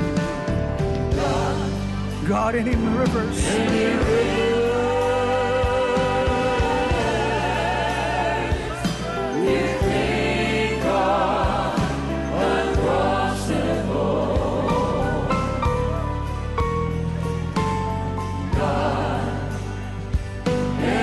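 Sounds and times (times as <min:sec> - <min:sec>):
instrumental accompaniment: 0:00.0 - 0:21.0
choir and congregation singing gospel: 0:00.8 - 0:02.2, 0:03.2 - 0:21.0.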